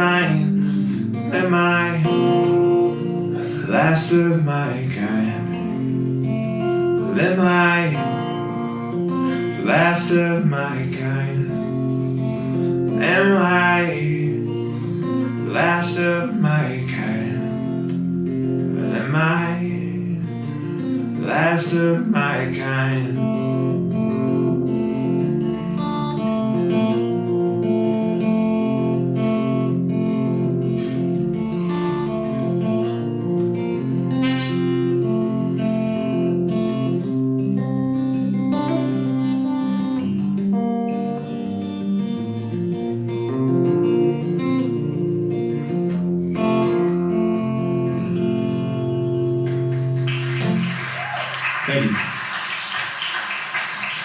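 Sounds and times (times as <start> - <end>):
acoustic guitar strumming and picking: 0.0 - 54.0.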